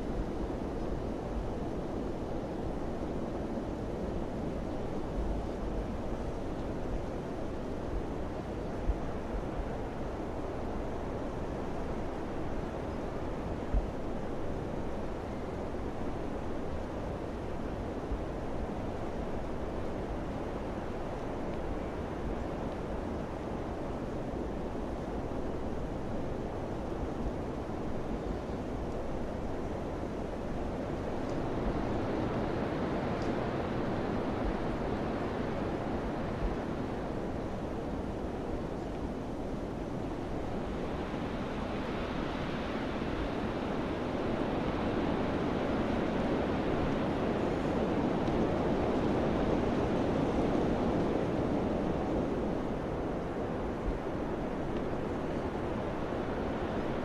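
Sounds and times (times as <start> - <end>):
wind blowing with low rumble: 0.0 - 57.0.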